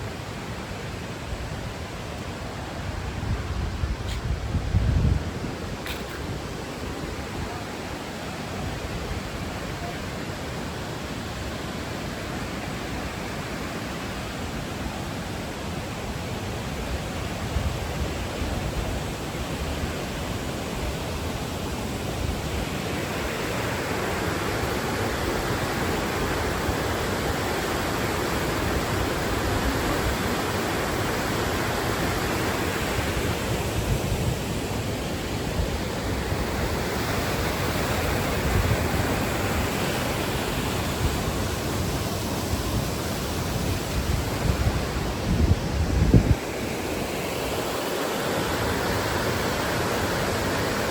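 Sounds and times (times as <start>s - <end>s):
waterfall rushing: 5.3s - 50.9s.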